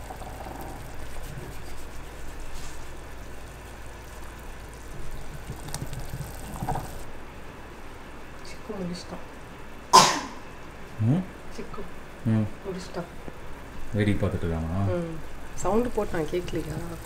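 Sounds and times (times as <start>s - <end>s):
water boiling in a saucepan: 0.0s - 17.0s.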